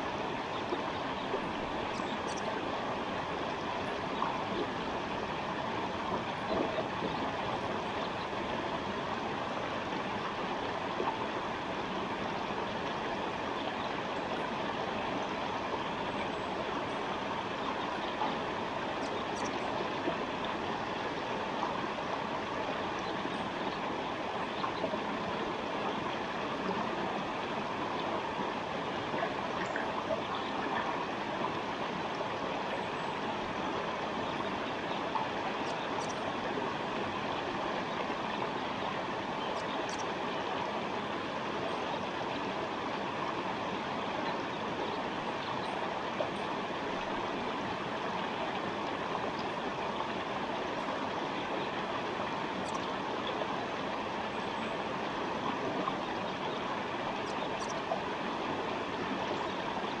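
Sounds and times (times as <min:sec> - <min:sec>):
stream water babbling: 0:00.0 - 1:00.0.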